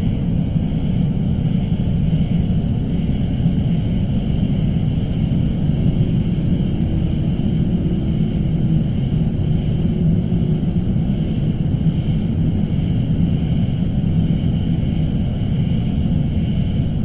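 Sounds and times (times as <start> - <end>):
dense low rumble drone: 0.0 - 17.0.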